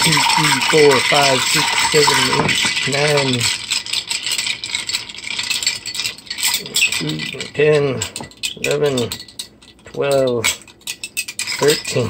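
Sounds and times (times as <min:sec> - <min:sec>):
ice cubes clinking in a glass: 0:00.0 - 0:12.0.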